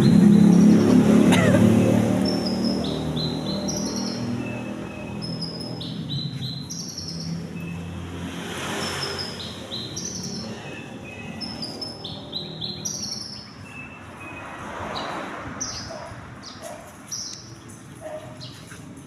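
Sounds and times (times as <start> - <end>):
songbird chirping: 0.0 - 18.8.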